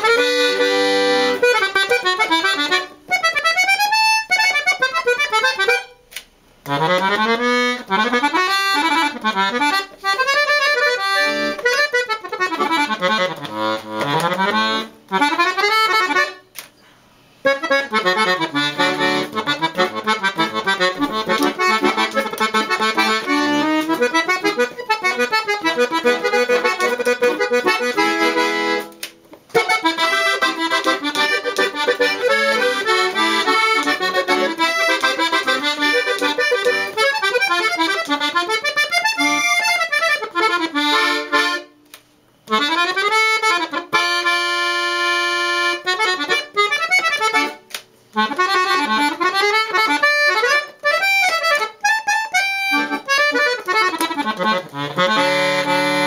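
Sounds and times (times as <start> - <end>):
accordion playing: 0.0 - 16.7, 17.4 - 56.0.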